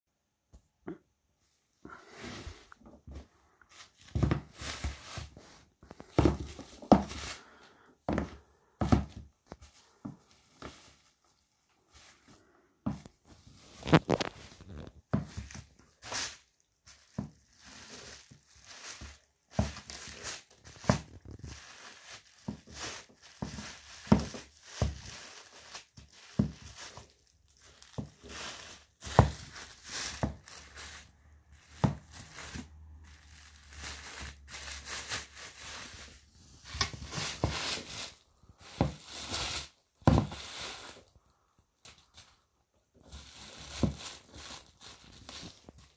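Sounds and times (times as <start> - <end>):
plastic sheet crinkling: 2.1 - 7.6, 9.4 - 41.2, 41.8 - 45.9.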